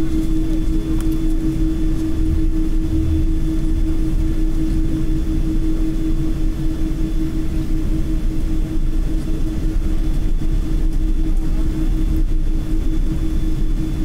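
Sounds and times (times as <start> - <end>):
airliner cabin engine hum: 0.0 - 14.0.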